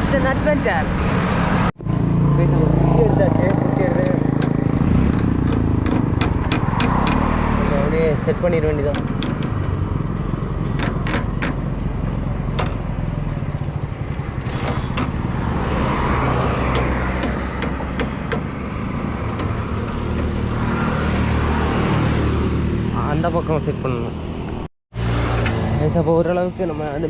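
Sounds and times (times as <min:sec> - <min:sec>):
traffic passing: 0:00.0 - 0:27.0.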